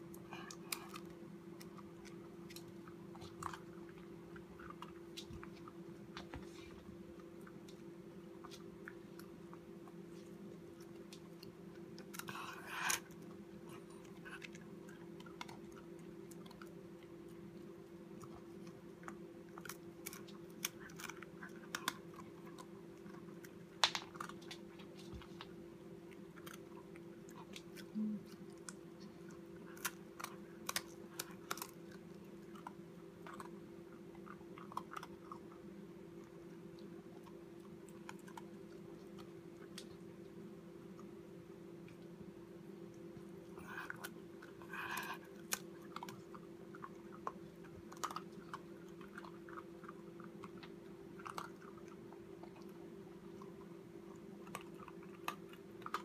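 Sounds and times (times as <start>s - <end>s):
puppy crunching dog biscuit: 0.0s - 56.0s
steady low hum: 0.0s - 56.0s.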